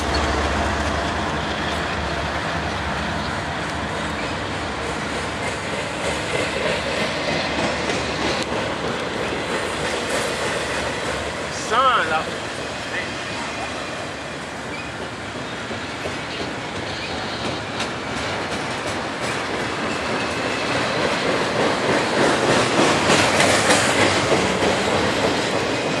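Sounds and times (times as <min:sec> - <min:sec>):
freight train wheels clacking: 0:00.0 - 0:26.0.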